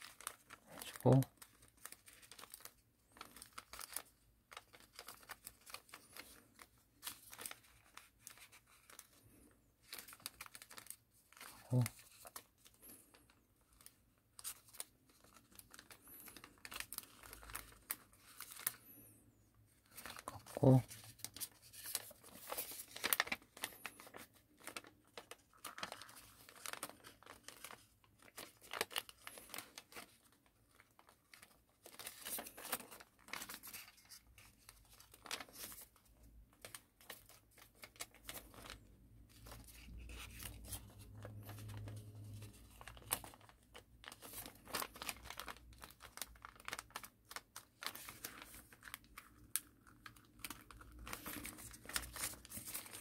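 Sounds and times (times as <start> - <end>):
paper folding and crinkling: 0.0 - 53.0.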